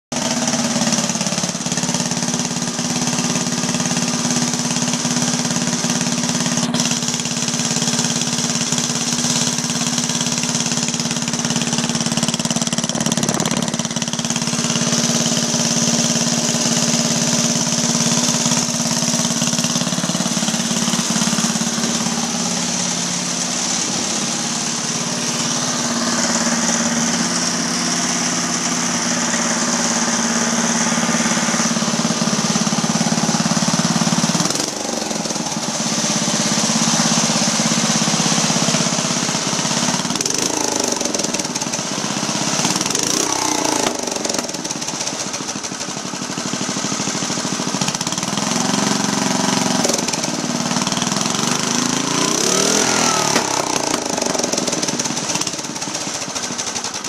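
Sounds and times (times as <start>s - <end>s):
single-cylinder engine running: 0.1s - 57.0s.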